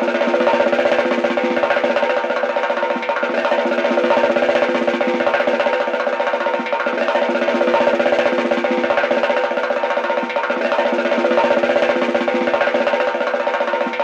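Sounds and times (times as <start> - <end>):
rapid percussive clatter: 0.0 - 14.0.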